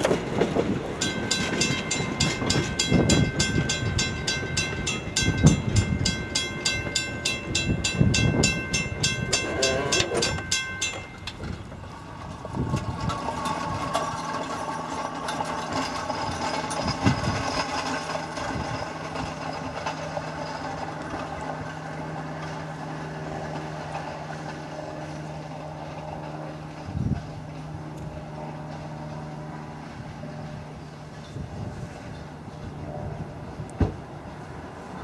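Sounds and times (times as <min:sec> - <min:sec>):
distant steam locomotive hum: 0:00.0 - 0:35.0.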